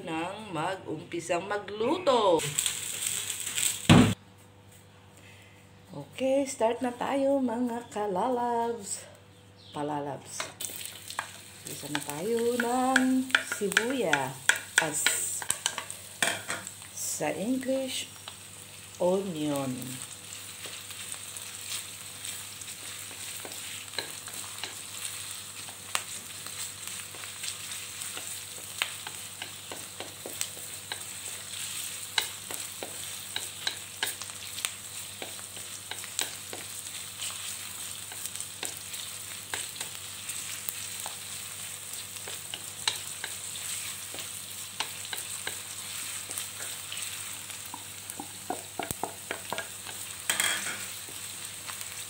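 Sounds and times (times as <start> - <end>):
onion sizzling in hot oil: 1.8 - 4.2, 10.3 - 52.0.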